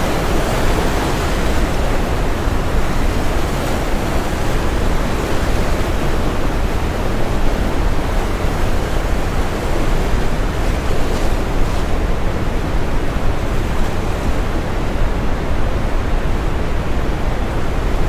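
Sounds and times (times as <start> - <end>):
brown noise hiss: 0.0 - 18.0
ocean waves on shore: 0.0 - 18.0.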